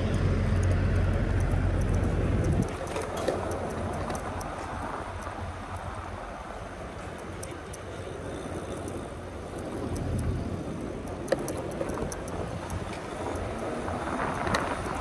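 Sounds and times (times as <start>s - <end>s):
bike tires rolling on pavement: 0.0s - 15.0s
faint clicks: 0.0s - 15.0s
wind on microphone: 1.2s - 7.2s, 7.9s - 15.0s.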